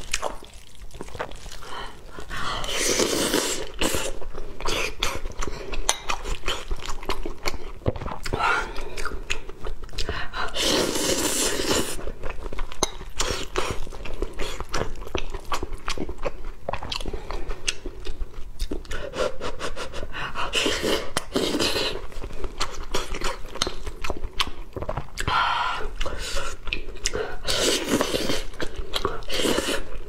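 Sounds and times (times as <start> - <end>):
close chewing with mouth clicks: 0.0 - 30.0.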